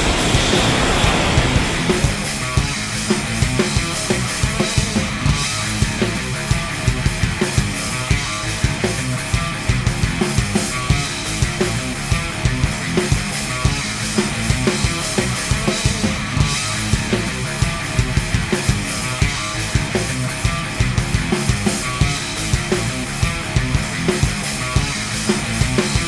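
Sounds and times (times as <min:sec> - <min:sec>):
fast drum beat: 0:00.0 - 0:26.0
hard rock music: 0:00.0 - 0:26.0.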